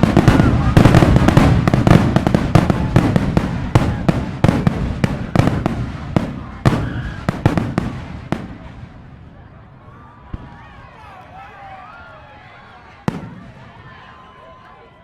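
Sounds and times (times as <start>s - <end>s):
fireworks bangs and crackles: 0.0s - 11.0s, 12.9s - 14.3s.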